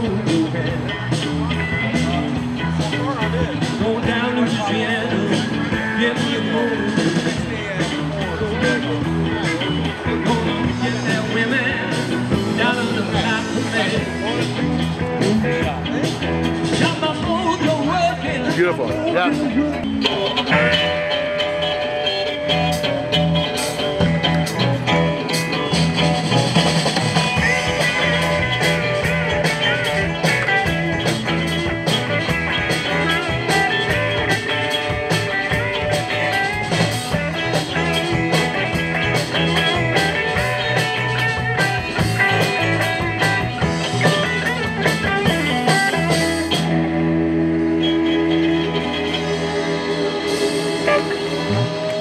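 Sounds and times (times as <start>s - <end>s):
drum kit: 0.0s - 52.0s
electric guitars: 0.0s - 52.0s
keyboard: 0.0s - 52.0s.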